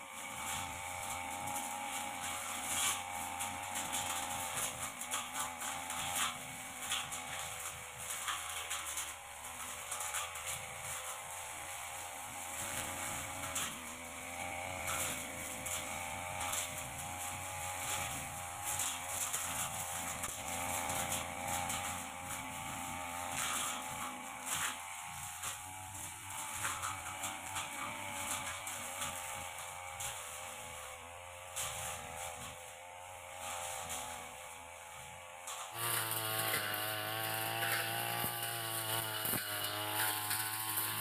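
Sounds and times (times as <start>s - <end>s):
blade swishing through vegetation: 0.0s - 41.0s
brush cutter engine running: 0.0s - 41.0s.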